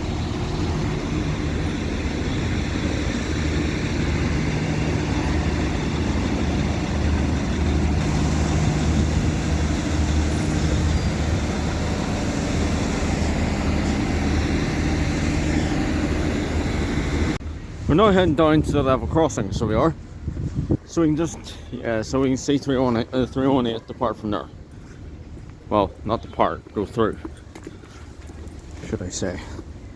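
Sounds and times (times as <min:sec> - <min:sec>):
train diesel engines humming: 0:00.0 - 0:29.9.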